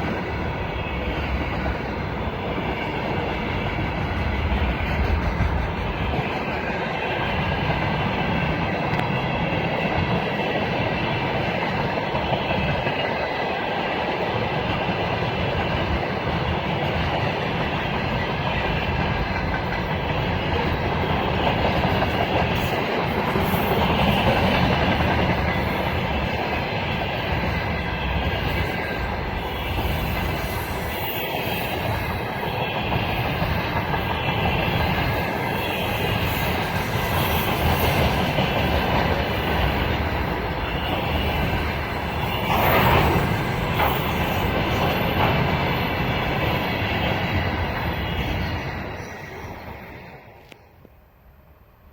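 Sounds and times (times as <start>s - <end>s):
train wheels clattering over rail joints: 1.0s - 9.2s, 14.6s - 49.4s.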